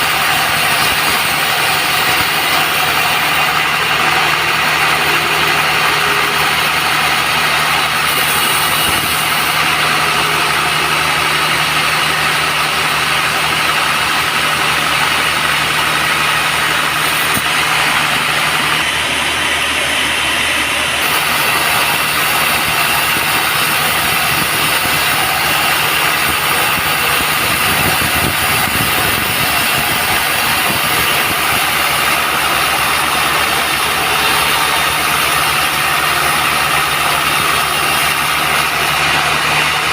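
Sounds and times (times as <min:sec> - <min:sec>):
band sawmill machine drone: 0:00.0 - 0:39.9.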